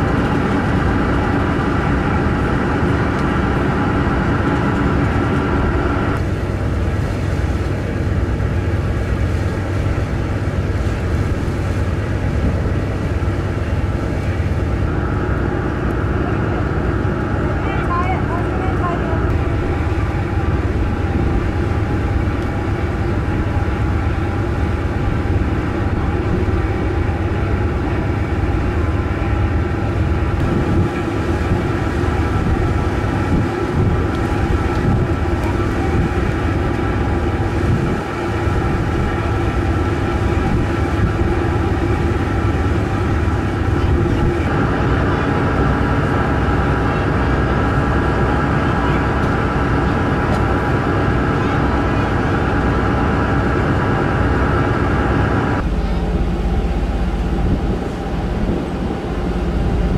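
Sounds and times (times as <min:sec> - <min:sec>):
ferry engines droning: 0:00.0 - 0:59.9.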